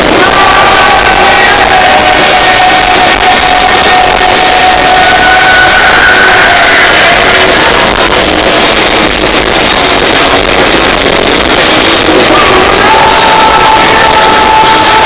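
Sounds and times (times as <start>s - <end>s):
distorted live rock music: 0.0s - 15.0s.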